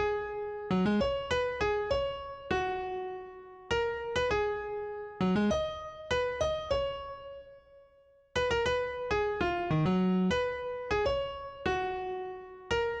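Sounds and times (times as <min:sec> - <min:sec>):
piano melody: 0:00.0 - 0:07.8, 0:08.4 - 0:13.0.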